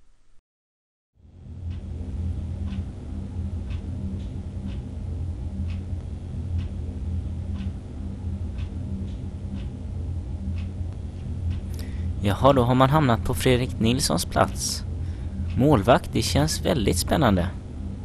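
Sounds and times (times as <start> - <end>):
steady low hum: 1.2 - 18.0.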